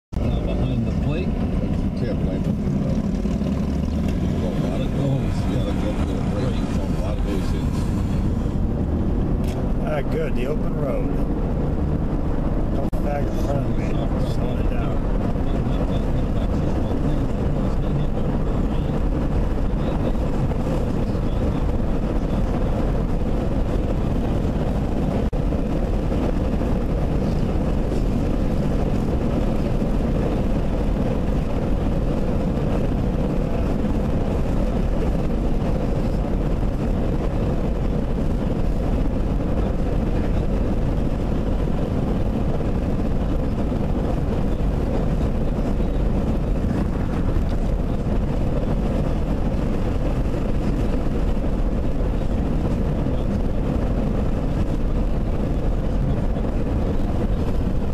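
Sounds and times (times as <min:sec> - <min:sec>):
car road and engine noise: 0:00.1 - 0:57.9.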